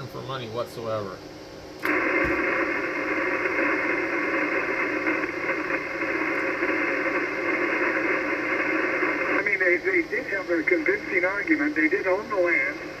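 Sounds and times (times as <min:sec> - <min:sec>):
radio band noise hiss: 0:00.0 - 0:13.0.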